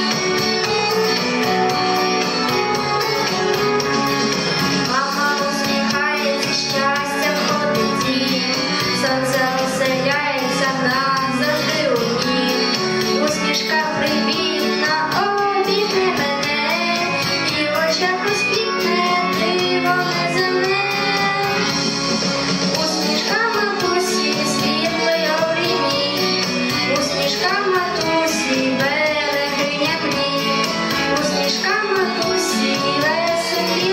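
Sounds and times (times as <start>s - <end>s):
guitar accompaniment: 0.0s - 33.9s
child singing: 4.9s - 21.7s, 22.8s - 33.9s.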